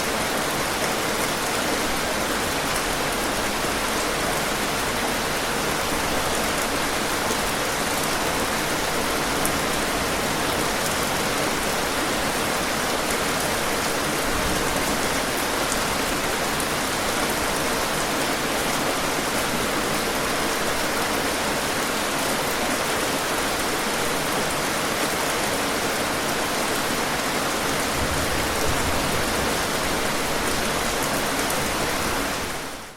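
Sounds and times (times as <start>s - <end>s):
steady rainfall: 0.0s - 32.9s.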